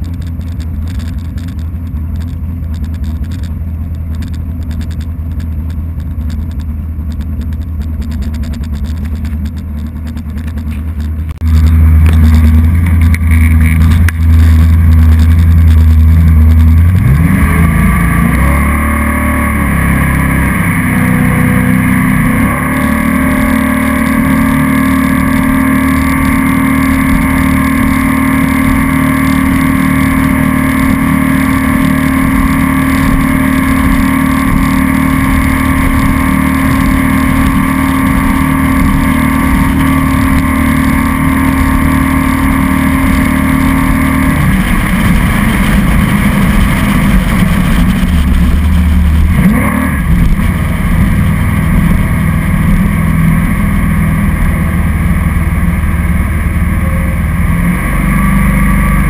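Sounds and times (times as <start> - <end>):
jet boat engine: 0.0 - 59.0.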